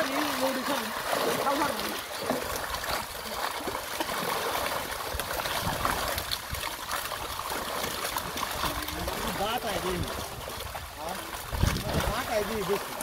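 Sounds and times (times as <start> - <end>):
fish thrashing and splashing in net: 0.0 - 13.0.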